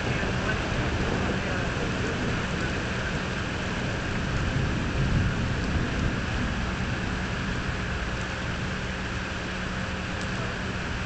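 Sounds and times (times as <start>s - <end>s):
low rumble: 0.0s - 11.0s
steady rain: 0.0s - 11.0s.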